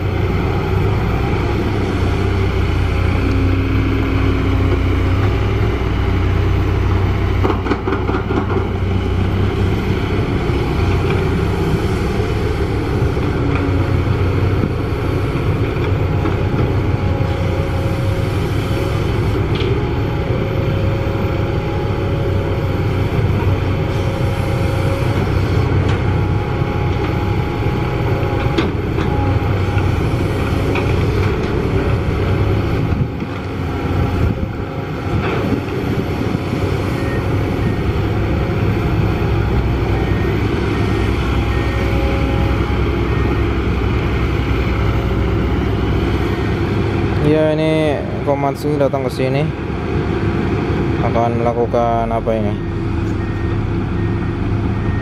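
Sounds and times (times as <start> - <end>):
excavator diesel engine rumbling: 0.0 - 55.0.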